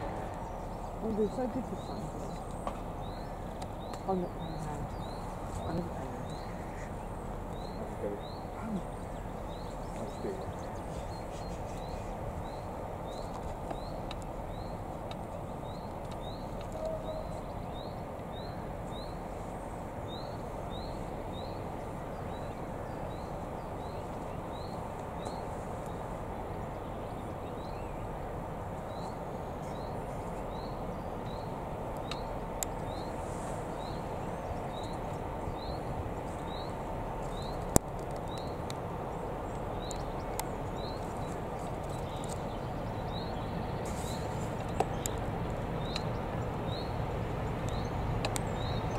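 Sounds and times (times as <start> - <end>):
diesel locomotives rumbling: 0.0 - 48.9
outdoor noise: 0.0 - 48.9.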